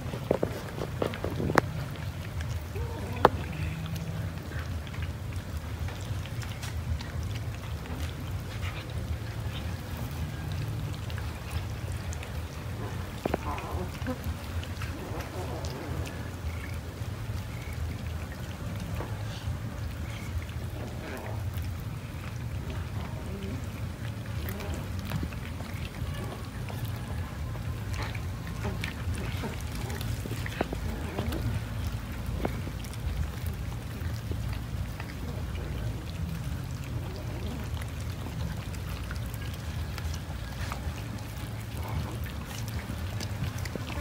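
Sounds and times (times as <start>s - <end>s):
cats chewing and lapping: 0.0s - 44.0s.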